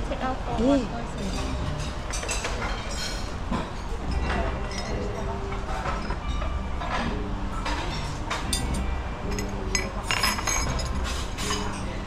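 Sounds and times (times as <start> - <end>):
cutlery and cup clinking: 1.2 - 12.0.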